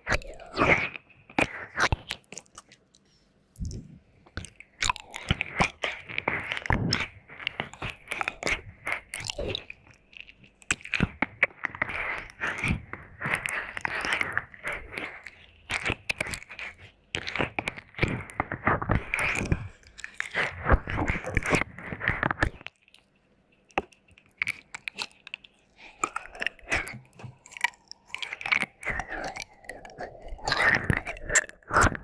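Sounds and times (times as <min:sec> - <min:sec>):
wet mouth smacking and licking: 0:00.2 - 0:03.0, 0:03.6 - 0:32.0.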